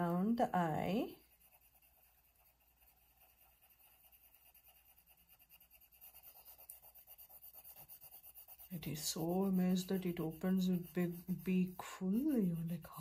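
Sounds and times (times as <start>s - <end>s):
pencil shading on paper: 0.0s - 13.0s.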